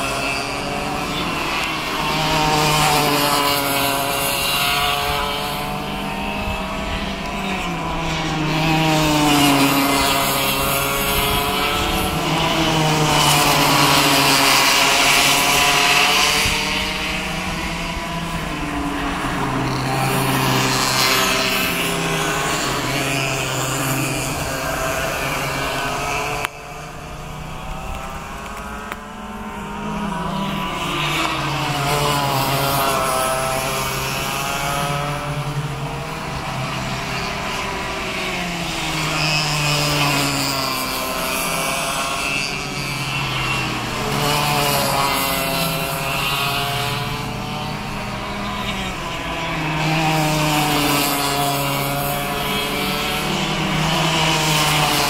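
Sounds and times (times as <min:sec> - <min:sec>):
racing kart engines buzzing: 0:00.0 - 0:55.0.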